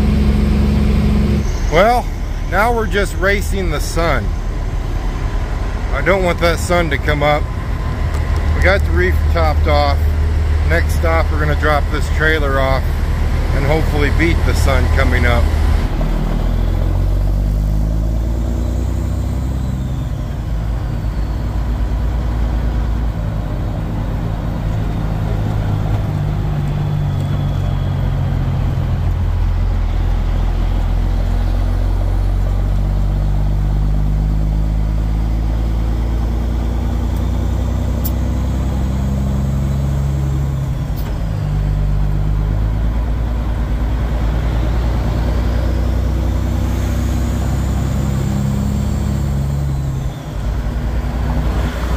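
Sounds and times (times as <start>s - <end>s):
truck diesel engine drone: 0.0s - 51.9s.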